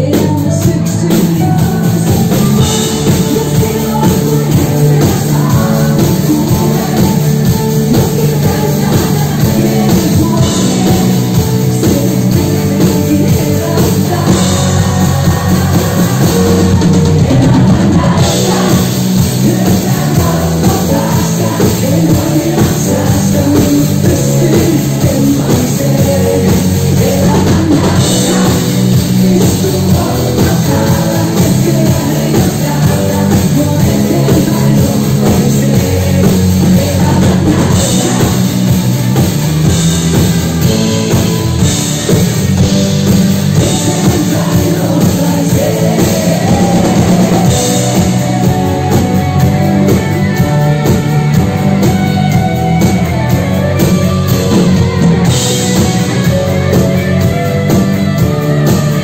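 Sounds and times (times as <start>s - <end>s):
woman singing: 0.0s - 39.8s, 40.6s - 50.5s
live pop-rock band: 0.0s - 59.0s.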